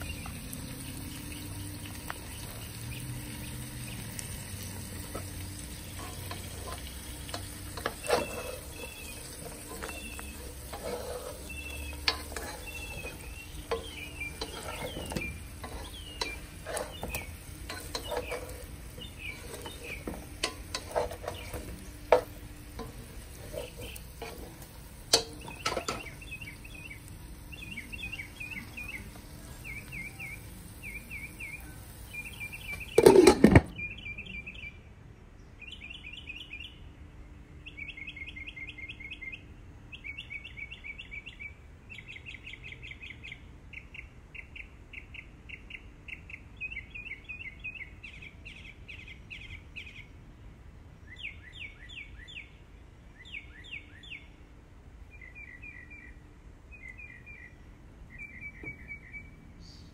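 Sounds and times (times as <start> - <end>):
songbirds chirping trills: 0.0 - 59.9.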